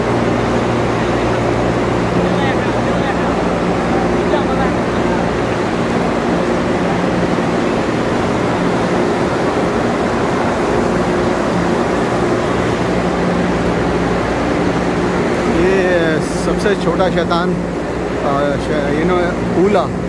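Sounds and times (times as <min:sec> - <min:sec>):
large cooling fans droning: 0:00.0 - 0:20.0.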